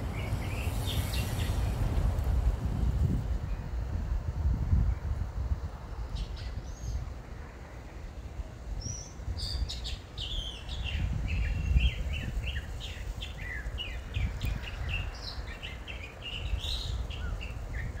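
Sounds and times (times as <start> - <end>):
songbirds chirping and trilling: 0.0 - 2.2, 4.7 - 18.0
wind rumble on microphone: 0.0 - 18.0.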